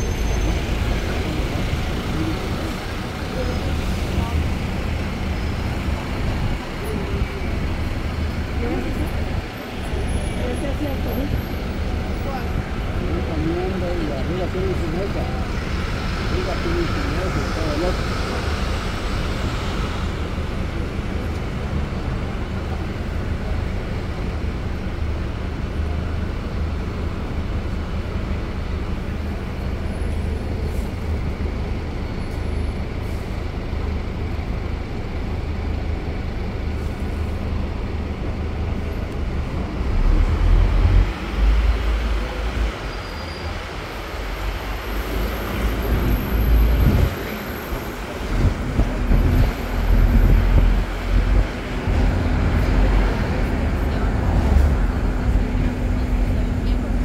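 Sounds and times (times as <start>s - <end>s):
bus engine running: 0.0s - 57.0s
city traffic: 0.0s - 57.0s.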